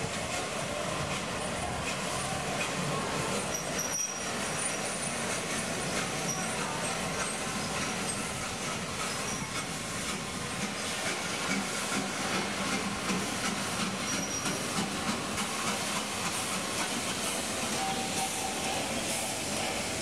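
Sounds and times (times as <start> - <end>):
steam hissing: 0.0 - 20.0
train wheels rumbling and clattering: 0.0 - 20.0.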